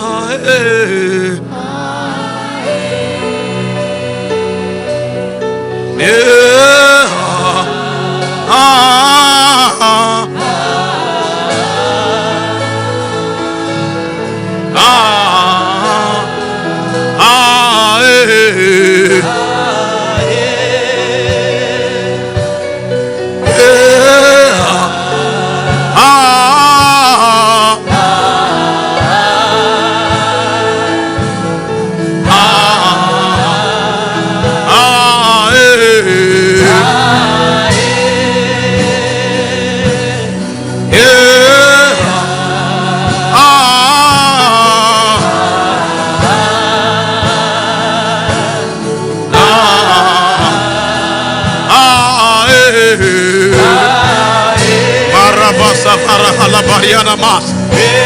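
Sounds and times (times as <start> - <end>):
gospel singing: 0.0 - 58.0.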